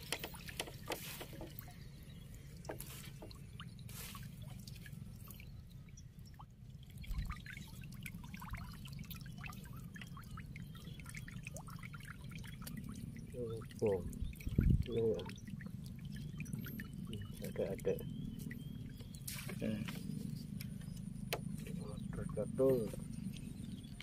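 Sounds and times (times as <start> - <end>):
water dripping and splashing: 0.0 - 24.0.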